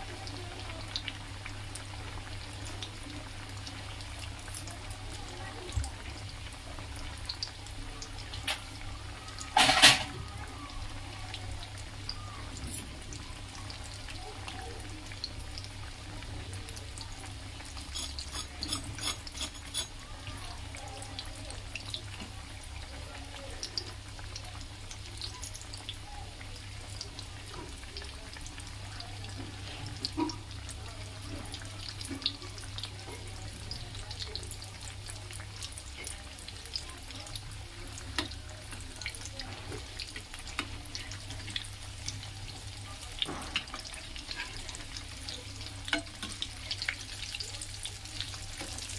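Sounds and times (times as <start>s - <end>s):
food deep-frying in oil: 0.0s - 48.9s.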